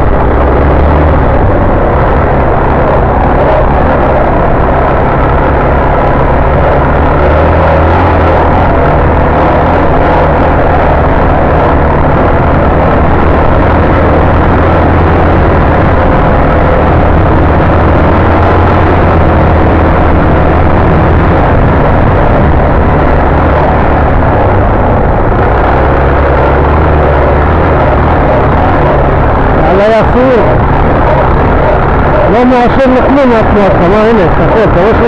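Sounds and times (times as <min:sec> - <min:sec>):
dirt bike engine running: 0:00.0 - 0:35.0
wind rushing over microphone: 0:00.0 - 0:35.0.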